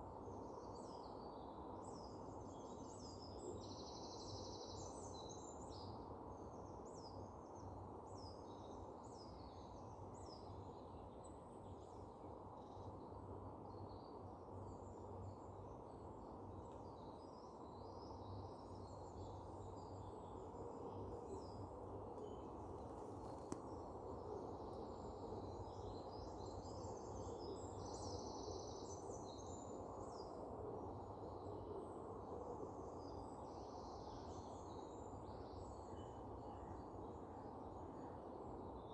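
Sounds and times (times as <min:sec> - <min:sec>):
faint low background noise: 0:00.0 - 0:38.9.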